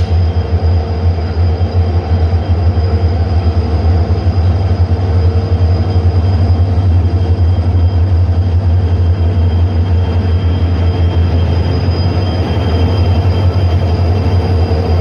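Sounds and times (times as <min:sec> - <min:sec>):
diesel locomotive engines humming: 0:00.0 - 0:15.0.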